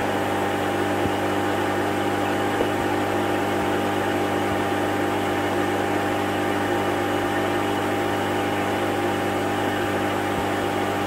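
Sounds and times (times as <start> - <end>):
aquarium pump humming: 0.0 - 11.0.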